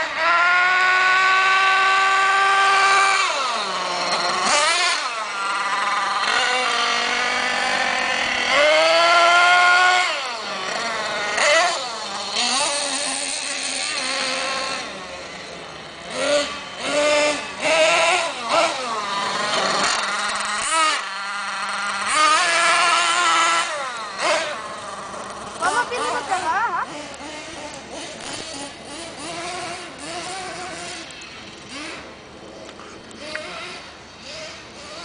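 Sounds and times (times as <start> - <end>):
nitro engine screaming at high revs: 0.0 - 35.0.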